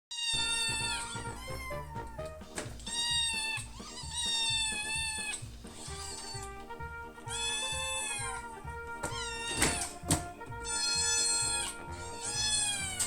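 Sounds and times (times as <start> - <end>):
kittens meowing: 0.1 - 6.6, 7.2 - 13.0
background music with steady beat: 0.2 - 13.0.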